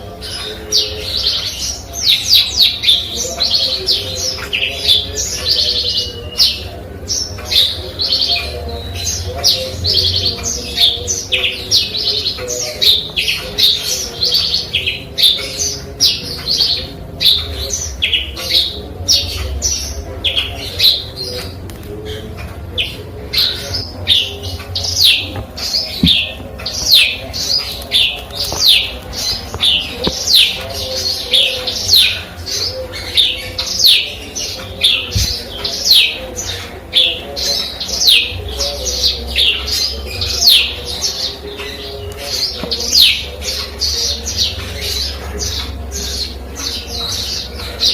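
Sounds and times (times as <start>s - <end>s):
sparrow chirping: 0.0s - 47.9s.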